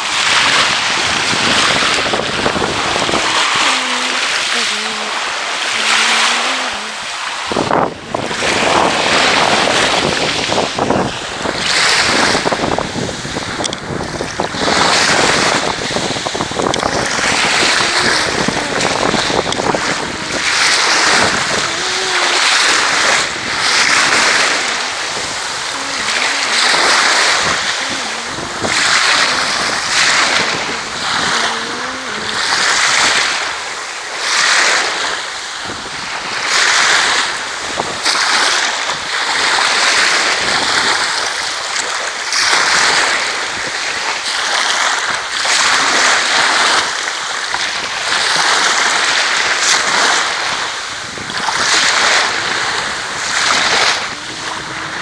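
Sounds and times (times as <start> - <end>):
small waves washing over sand: 0.0 - 55.0
wind buffeting microphone: 0.0 - 55.0.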